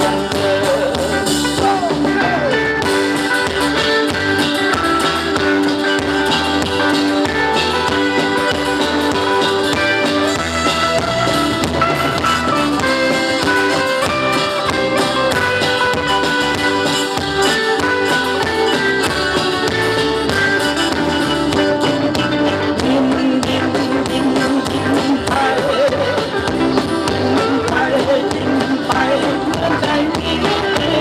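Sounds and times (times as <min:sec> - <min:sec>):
drum kit: 0:00.0 - 0:31.0
guitar: 0:00.0 - 0:31.0.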